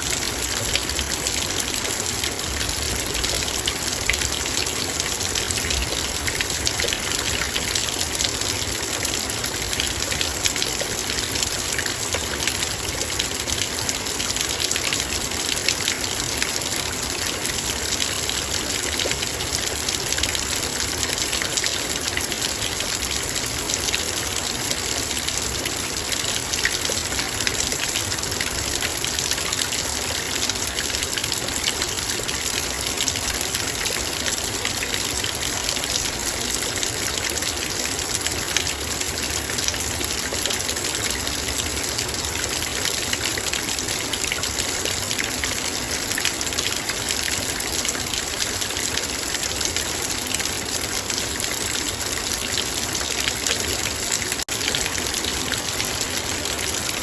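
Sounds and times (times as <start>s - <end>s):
heavy rain on a metal bowl: 0.0s - 57.0s.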